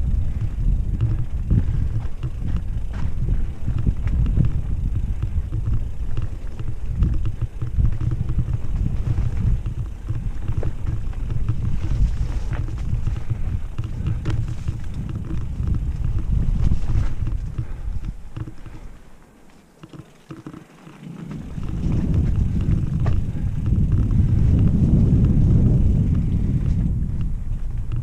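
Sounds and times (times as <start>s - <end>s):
wind on the microphone: 0.0s - 19.1s, 21.0s - 28.0s
bike clicks and rattles: 0.0s - 28.0s
tyres on dirt trail: 0.0s - 28.0s.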